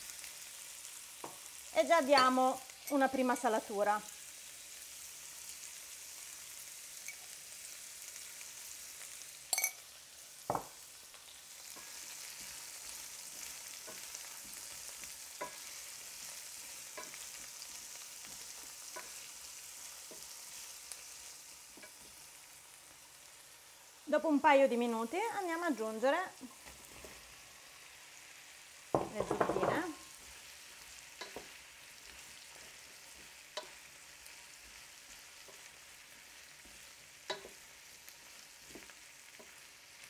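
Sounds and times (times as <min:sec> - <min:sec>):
vegetables sizzling in oil: 0:00.0 - 0:40.0.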